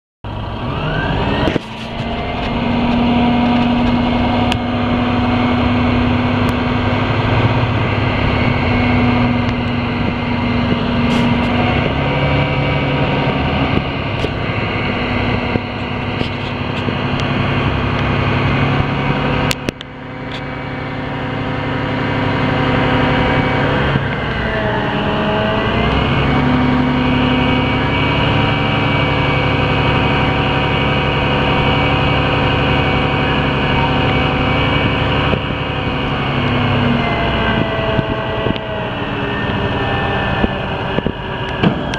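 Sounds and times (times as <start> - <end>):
diesel truck engine running: 0.2 - 41.9.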